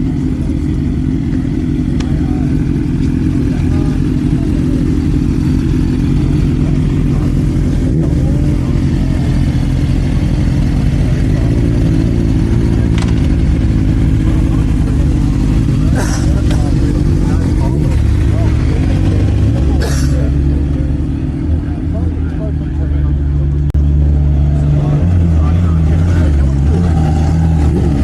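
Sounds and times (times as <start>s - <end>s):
faint voices: 0.0s - 28.0s
vehicle engine rumbling: 0.0s - 28.0s.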